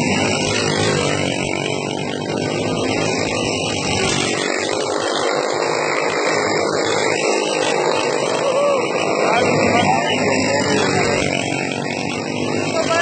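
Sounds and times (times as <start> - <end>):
racing kart engines: 0.0 - 13.0.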